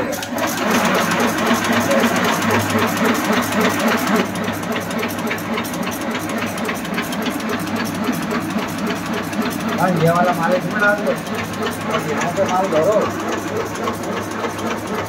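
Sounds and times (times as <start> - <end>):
rapid mechanical clatter: 0.0 - 15.0
steady motor hum: 0.0 - 15.0.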